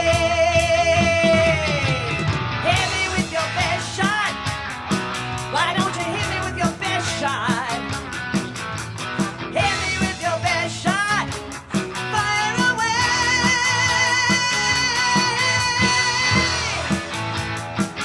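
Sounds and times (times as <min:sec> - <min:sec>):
electric guitar lead line: 0:00.0 - 0:18.0
rock band playing: 0:00.0 - 0:18.0.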